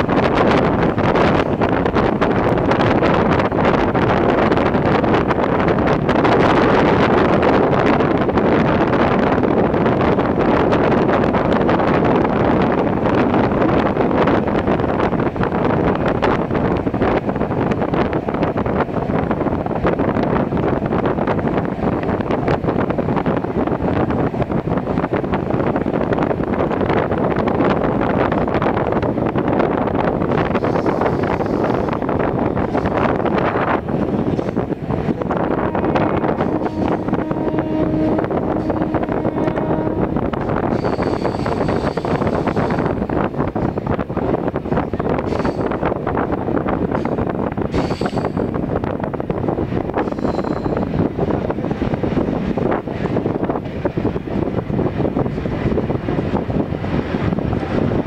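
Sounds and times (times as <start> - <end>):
train wheels rumbling on rail: 0.0 - 58.0
wind buffeting microphone: 0.0 - 58.0.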